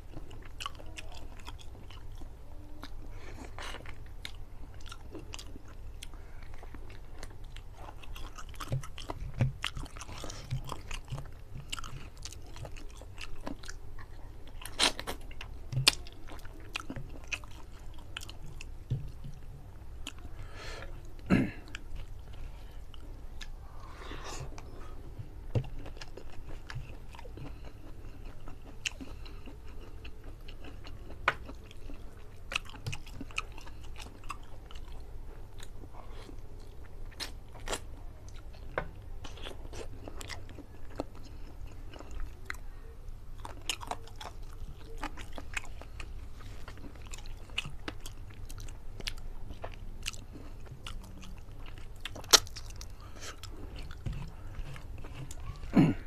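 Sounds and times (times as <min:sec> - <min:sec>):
man chewing with wet clicks: 0:00.0 - 0:23.9, 0:24.5 - 0:56.0.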